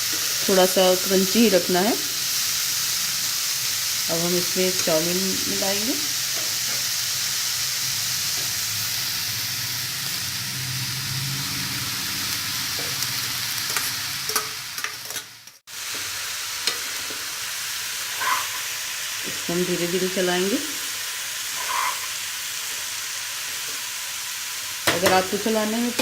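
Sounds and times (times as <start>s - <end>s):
oil sizzling in a pan: 0.0s - 26.0s.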